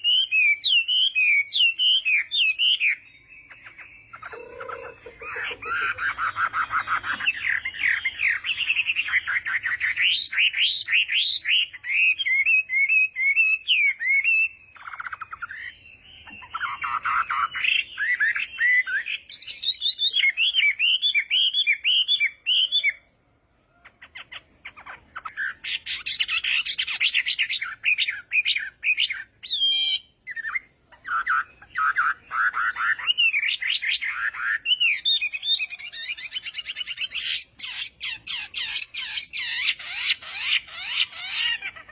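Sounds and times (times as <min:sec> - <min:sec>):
songbird singing whistled notes: 0:00.0 - 0:41.9.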